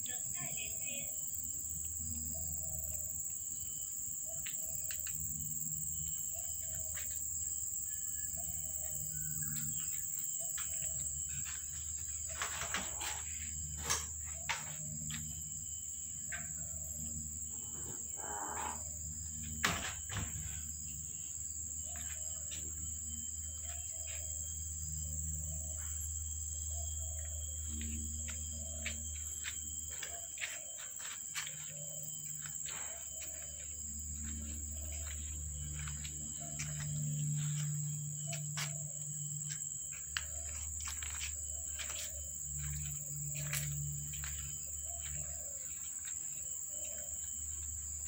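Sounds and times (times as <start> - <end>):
high-pitched insect drone: 0.0 - 48.0
low outdoor hum: 0.0 - 48.0.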